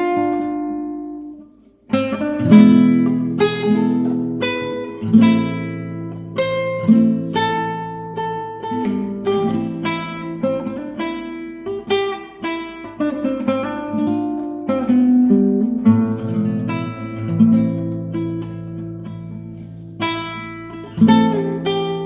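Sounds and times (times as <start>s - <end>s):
solo guitar melody: 0.0s - 22.0s.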